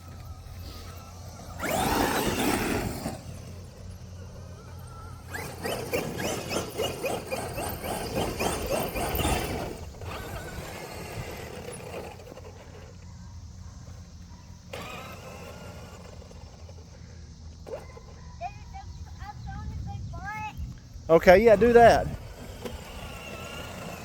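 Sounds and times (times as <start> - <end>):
electric truck motor whining: 0.0 - 19.1, 20.7 - 24.0.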